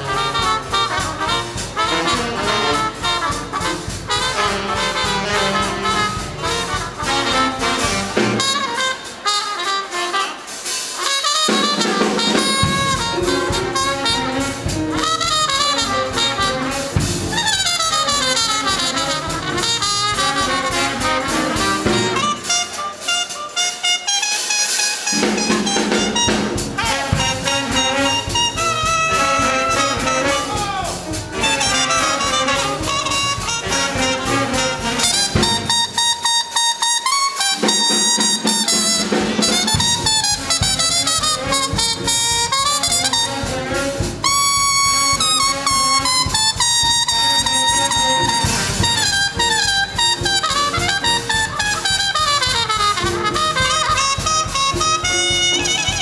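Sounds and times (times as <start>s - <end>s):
big band swing music: 0.0s - 56.0s
muted trumpets: 0.0s - 56.0s.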